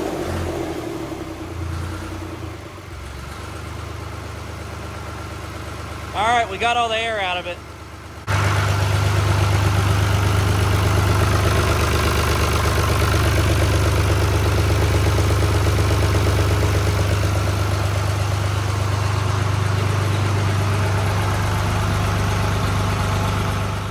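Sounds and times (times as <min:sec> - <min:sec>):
diesel tractor engine idling: 0:00.0 - 0:23.9.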